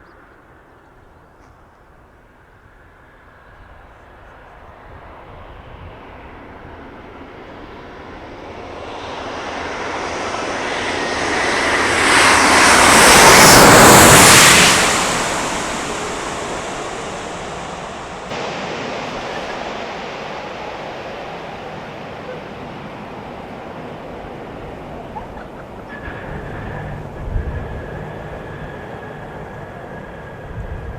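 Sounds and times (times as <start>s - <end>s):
jet airliner passing overhead: 0.0s - 30.9s.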